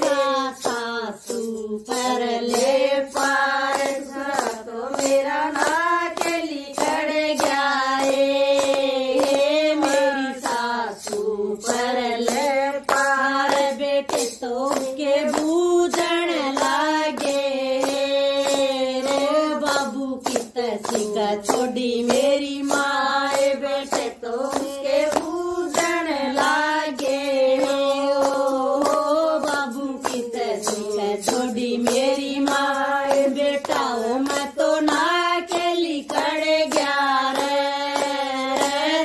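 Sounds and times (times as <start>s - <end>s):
hand clapping: 0.0s - 39.0s
women singing devotional song: 0.0s - 39.0s.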